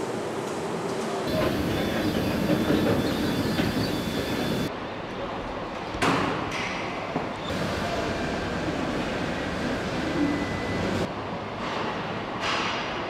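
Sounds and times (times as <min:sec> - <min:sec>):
factory machinery rumble and clatter: 0:00.0 - 0:13.0.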